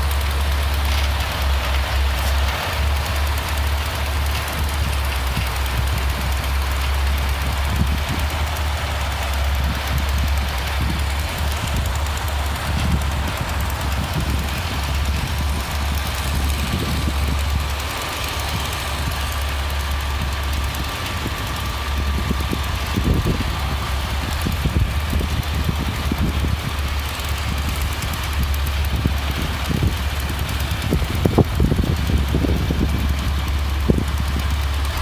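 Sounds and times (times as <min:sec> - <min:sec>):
heavy engine idling: 0:00.0 - 0:35.0.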